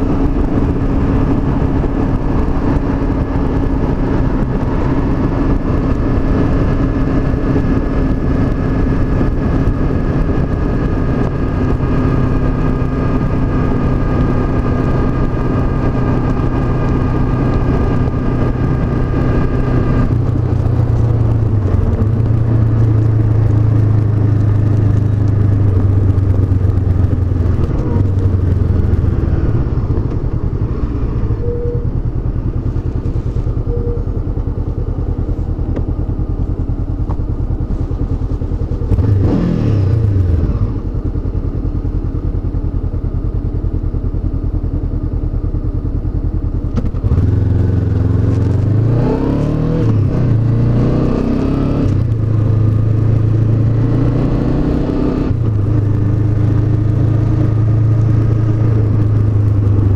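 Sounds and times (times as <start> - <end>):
wind noise: 0.0 - 41.0, 46.8 - 59.9
motorcycle engine running: 0.0 - 59.9
road noise: 0.0 - 59.9.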